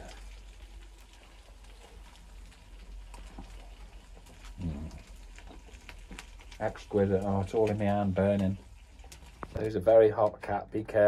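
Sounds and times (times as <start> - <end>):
food sizzling in a pan: 0.0 - 10.2.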